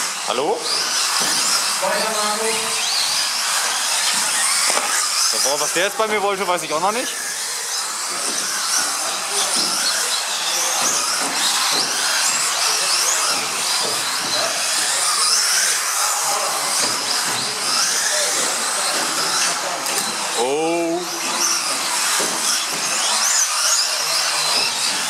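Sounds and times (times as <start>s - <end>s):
model car motors whining: 0.0s - 25.0s.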